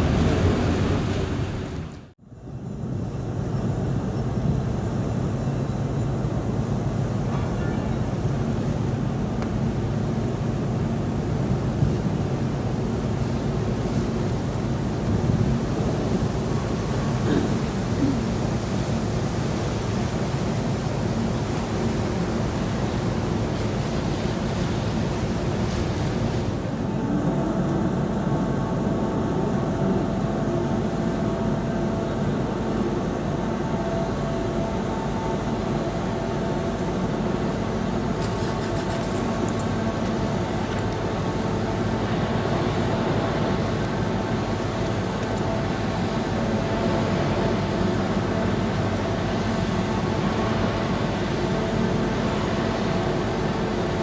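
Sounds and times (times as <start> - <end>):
ferry engines droning: 0.0 - 54.0
wind: 0.0 - 54.0.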